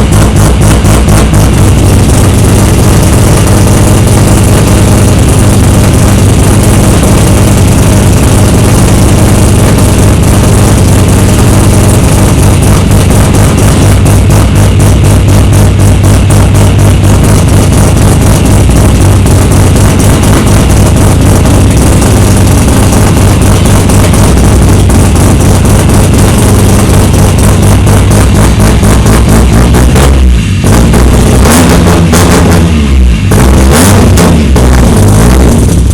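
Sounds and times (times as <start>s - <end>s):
rotary engine idling: 0.0s - 35.9s.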